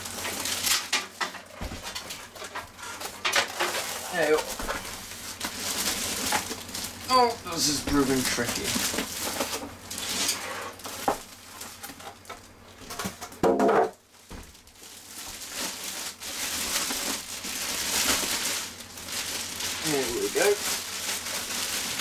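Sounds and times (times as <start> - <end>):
cardboard and plastic wrap rustling: 0.0 - 22.0.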